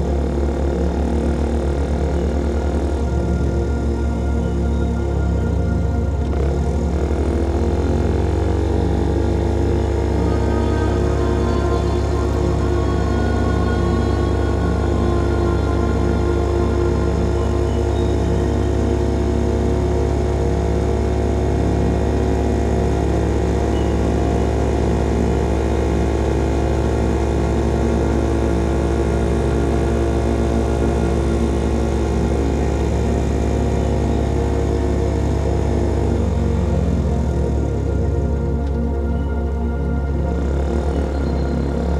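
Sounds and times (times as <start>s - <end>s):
motorcycle engine droning: 0.0s - 41.9s.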